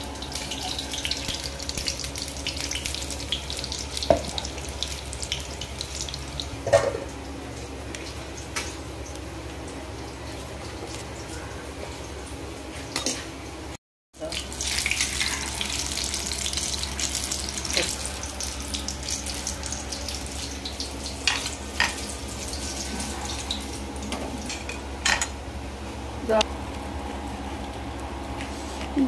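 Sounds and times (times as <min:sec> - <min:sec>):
deep-frying crackling sizzle: 0:00.0 - 0:29.0.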